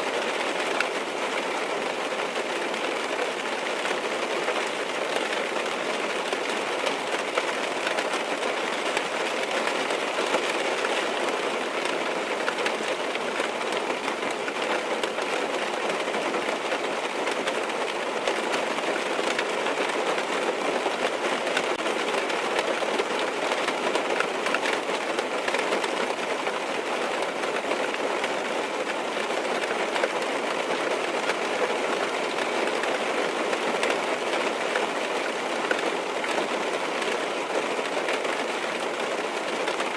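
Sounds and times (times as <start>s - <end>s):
rain drumming on car roof: 0.0s - 39.9s.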